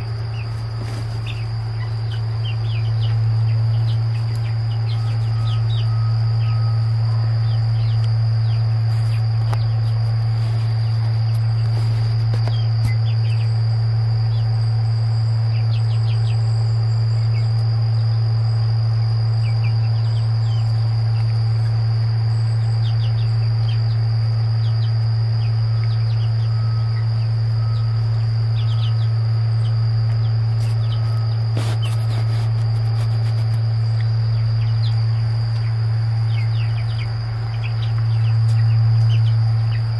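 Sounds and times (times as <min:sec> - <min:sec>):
chicks peeping: 0:00.0 - 0:39.9
insects droning: 0:00.0 - 0:39.9
loud low hum: 0:00.0 - 0:39.9.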